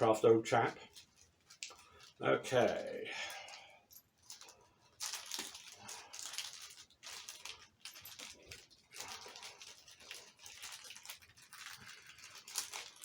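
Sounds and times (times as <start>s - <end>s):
plastic packaging rustling: 0.5s - 13.0s.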